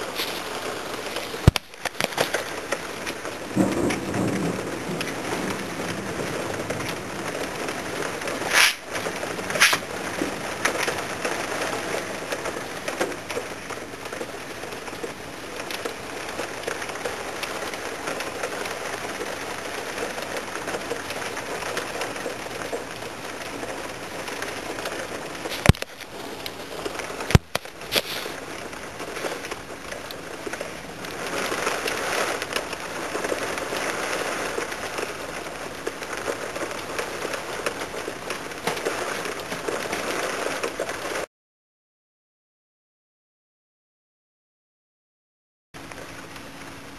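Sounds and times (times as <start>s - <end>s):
heavy rain pouring: 0.0s - 41.3s, 45.8s - 46.9s.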